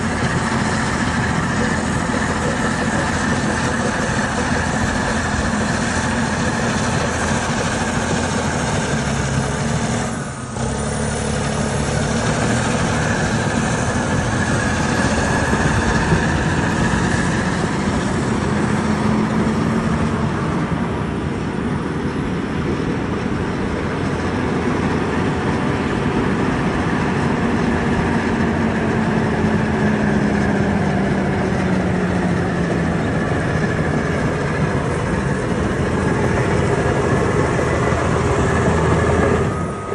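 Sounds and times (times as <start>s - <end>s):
dozer diesel engine running: 0.0s - 39.9s.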